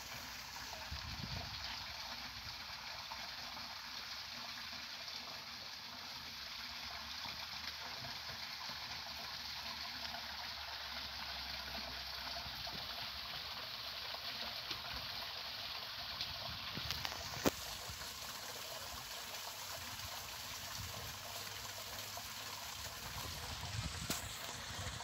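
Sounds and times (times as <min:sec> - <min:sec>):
water running through furrows: 0:00.0 - 0:25.0.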